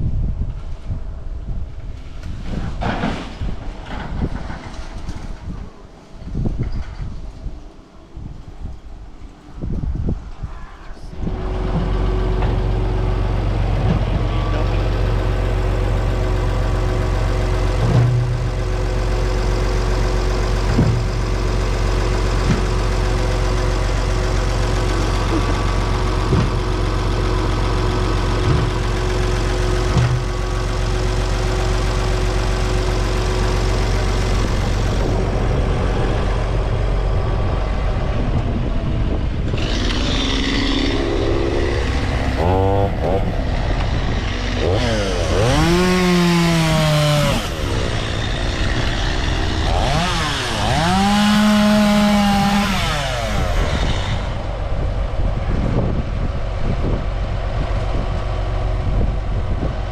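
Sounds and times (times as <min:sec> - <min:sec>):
engine running steadily: 0:11.0 - 0:59.9.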